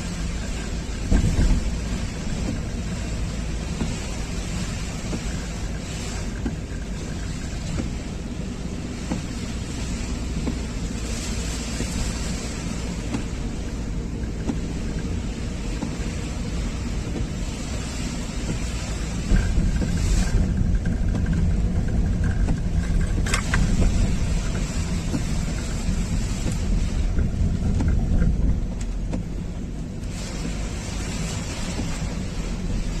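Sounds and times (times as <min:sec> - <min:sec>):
heavy rain hiss: 0:00.0 - 0:33.0
surf: 0:00.0 - 0:33.0
wind buffeting microphone: 0:00.0 - 0:33.0.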